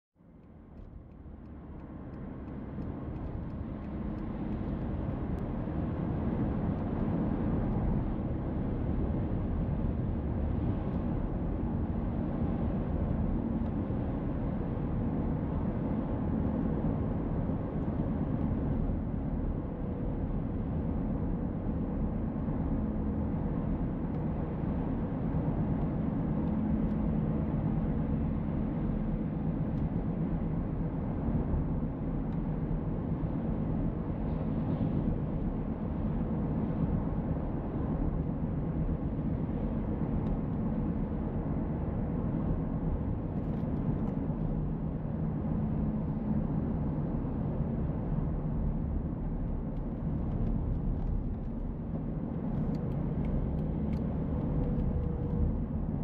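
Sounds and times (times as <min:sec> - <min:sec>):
car road and engine noise: 0:00.4 - 0:56.0.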